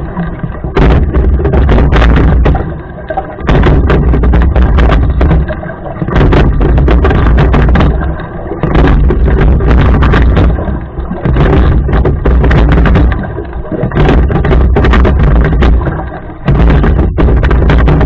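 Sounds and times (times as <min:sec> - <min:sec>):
oar clicks and knocks: 0:00.0 - 0:18.0
rowing boat rumble: 0:00.0 - 0:18.0.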